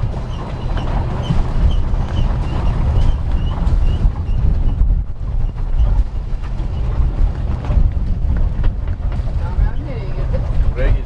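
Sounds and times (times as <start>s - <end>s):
boat engine low rumble: 0.0s - 11.0s
wind on microphone: 0.0s - 11.0s.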